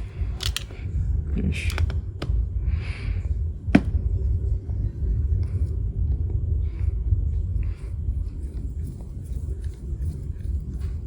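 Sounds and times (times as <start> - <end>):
low rumbling handling noise: 0.0 - 11.0.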